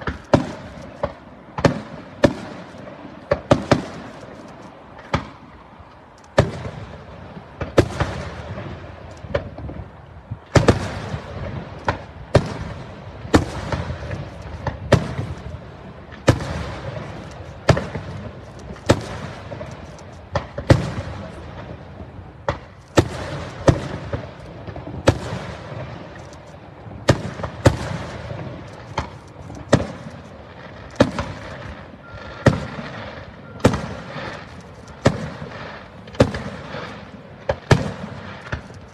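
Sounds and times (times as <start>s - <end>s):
fireworks bursting with echoing rumble: 0.0s - 38.9s.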